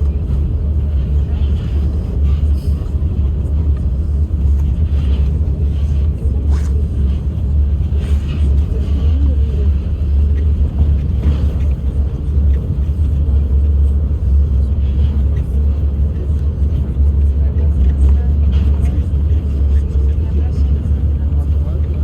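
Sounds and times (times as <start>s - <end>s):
monorail train rumble: 0.0s - 22.0s.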